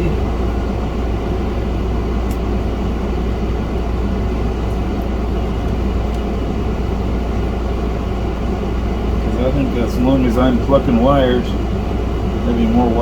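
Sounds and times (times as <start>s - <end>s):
machinery hum and rumble: 0.0s - 13.0s.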